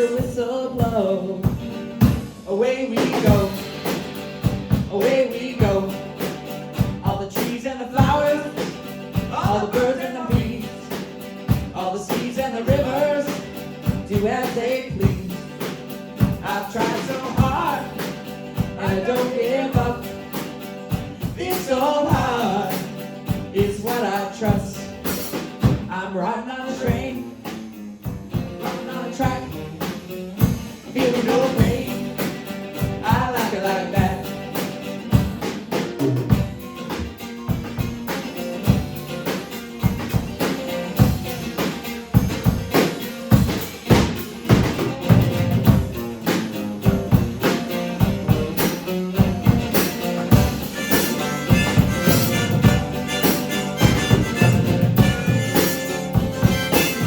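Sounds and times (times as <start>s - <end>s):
drum kit beat: 0.0s - 26.0s, 26.8s - 57.0s
band playing upbeat song: 0.0s - 57.0s.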